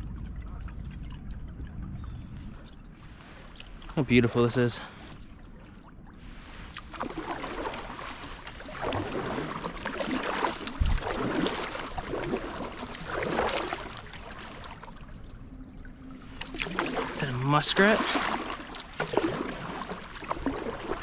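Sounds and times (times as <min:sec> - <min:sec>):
paddle strokes splashing water: 0:00.0 - 0:21.0.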